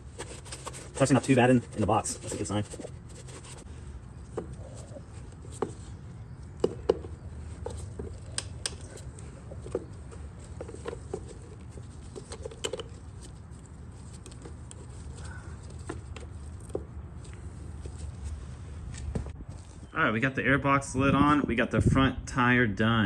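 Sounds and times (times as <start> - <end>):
hands handling plastic parts: 0.0 - 19.7
low background hum: 0.0 - 23.0.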